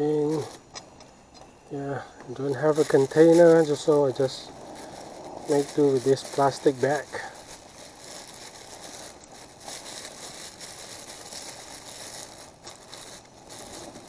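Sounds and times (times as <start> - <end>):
low hiss: 0.0 - 14.0
plastic bag crinkling: 0.0 - 14.0.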